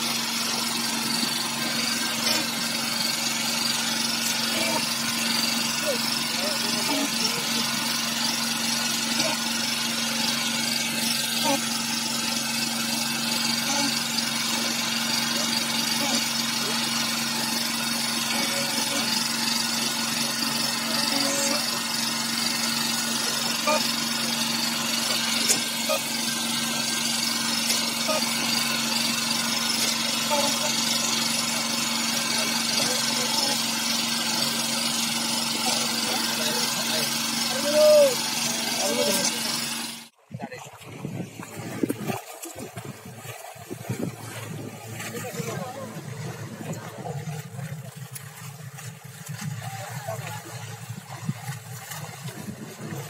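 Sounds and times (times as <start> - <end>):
small engine running: 0.0 - 40.2, 41.0 - 53.0.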